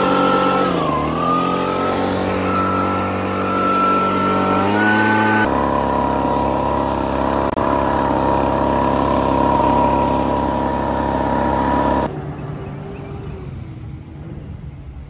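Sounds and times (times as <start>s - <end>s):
small gasoline engine running: 0.0s - 12.2s
outdoor background noise: 0.0s - 15.0s.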